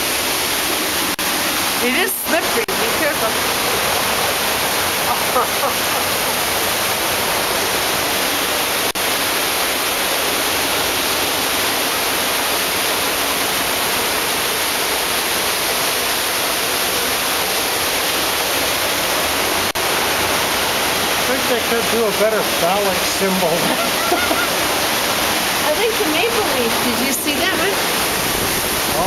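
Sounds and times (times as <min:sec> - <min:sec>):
whitewater rushing over rocks: 0:00.0 - 0:29.0.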